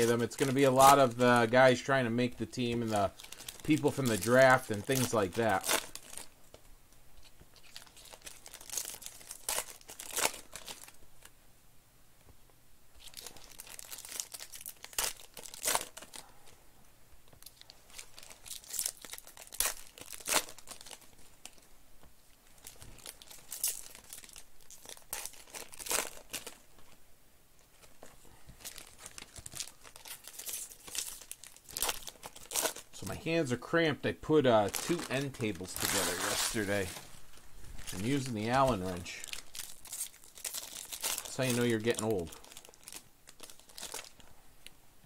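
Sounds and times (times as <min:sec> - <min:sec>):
foil wrappers crinkling and tearing: 0:00.0 - 0:06.4, 0:07.5 - 0:11.3, 0:13.0 - 0:16.3, 0:17.4 - 0:21.7, 0:22.5 - 0:27.0, 0:27.7 - 0:33.6, 0:34.3 - 0:44.2.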